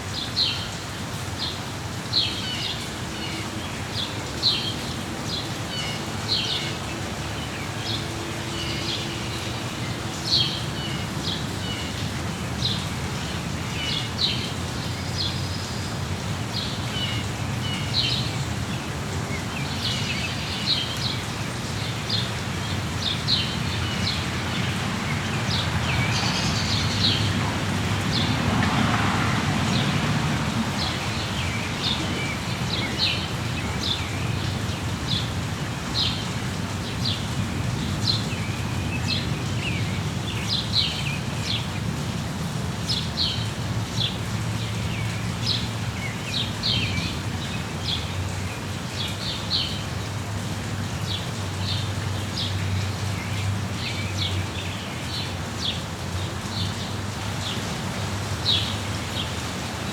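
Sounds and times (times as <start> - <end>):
rain hiss: 0.0 - 59.9
songbirds chirping: 0.1 - 59.9.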